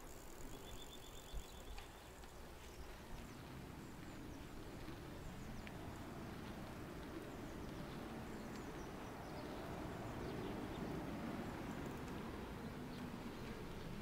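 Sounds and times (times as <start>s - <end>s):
bicycle tyres rolling on tarmac: 0.0s - 14.0s
small birds chirping: 0.0s - 14.0s.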